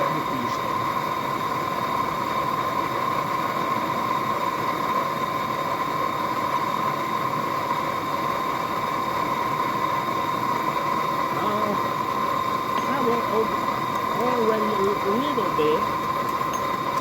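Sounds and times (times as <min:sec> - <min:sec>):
forge blower whirring: 0:00.0 - 0:17.0.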